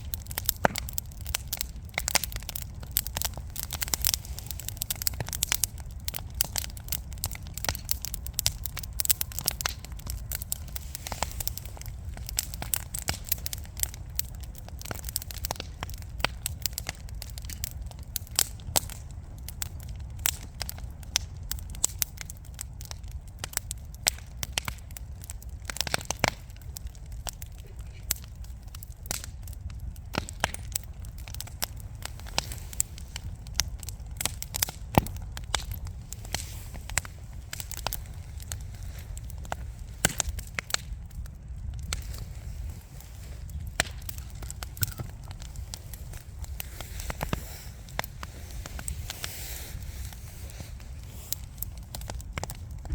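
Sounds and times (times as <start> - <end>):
burning logs crackling and popping: 0.0 - 52.9
low rumble of flames: 0.0 - 52.9.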